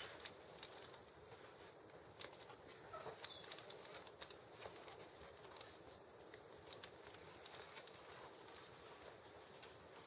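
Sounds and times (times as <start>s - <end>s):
steady low hiss: 0.0s - 10.0s.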